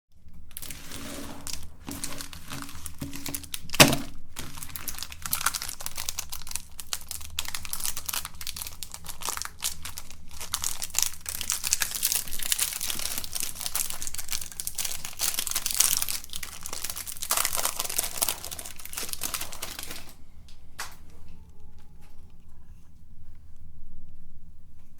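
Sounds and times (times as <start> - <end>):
chocolate crunching in grinder: 0.2 - 20.2.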